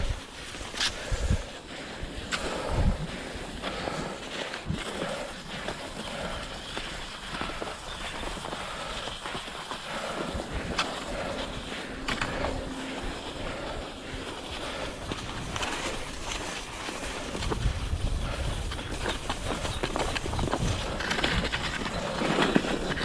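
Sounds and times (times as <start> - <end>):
clicks and thumps of skis and poles: 0.0 - 23.0
skis sliding over snow: 0.0 - 23.0.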